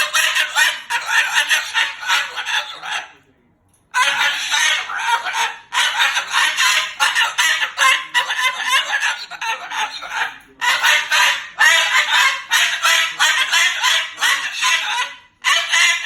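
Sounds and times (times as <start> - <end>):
cockatoo squawking: 0.0 - 3.2, 3.9 - 16.0.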